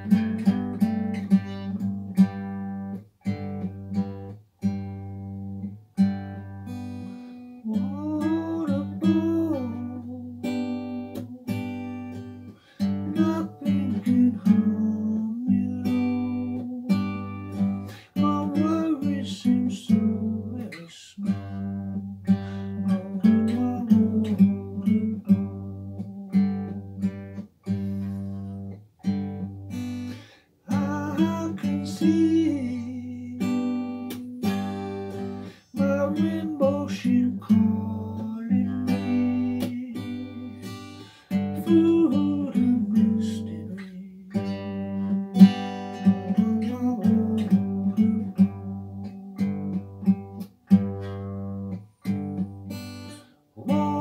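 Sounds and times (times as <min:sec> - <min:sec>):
acoustic guitar strummed: 0:00.0 - 0:54.0.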